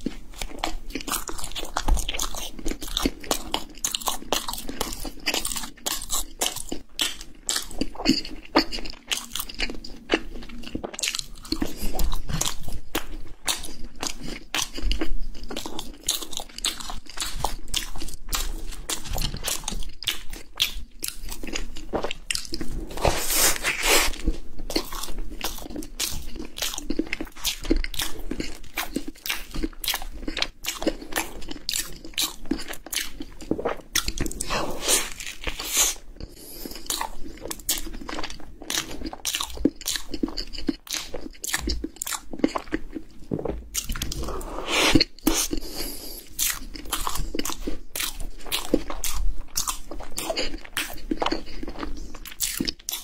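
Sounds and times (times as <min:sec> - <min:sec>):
biting and chewing cake: 0:00.0 - 0:53.0.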